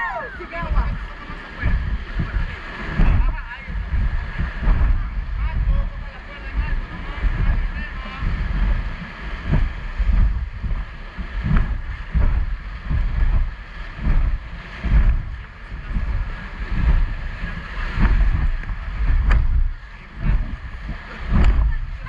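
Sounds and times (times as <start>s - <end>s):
whitewater river rushing: 0.0s - 22.0s
wind buffeting microphone: 0.0s - 22.0s.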